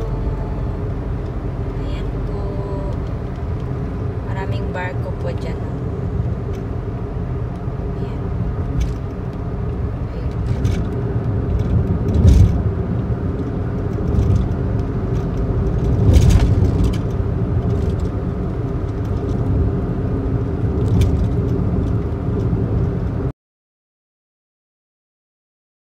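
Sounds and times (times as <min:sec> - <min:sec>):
car engine and tyre rumble: 0:00.0 - 0:23.3.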